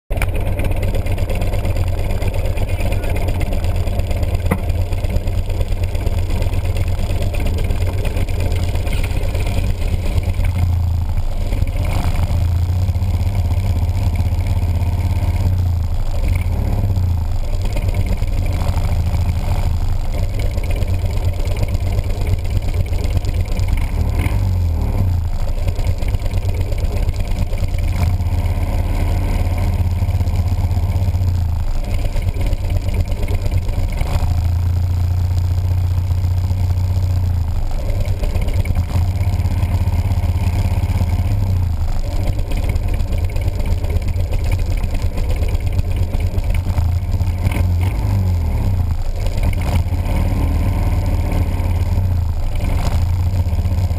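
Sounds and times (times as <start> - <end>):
motorcycle engines idling: 0.1 - 53.9
motorcycle engines revving: 0.2 - 53.9.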